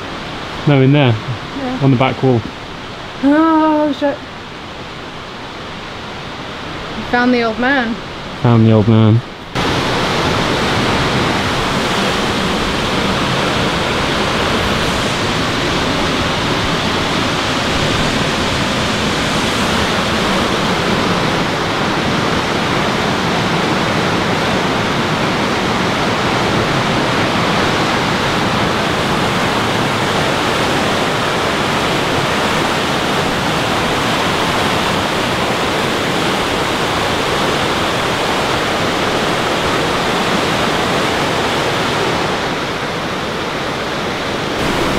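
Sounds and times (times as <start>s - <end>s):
fast river rushing: 0.0s - 44.9s.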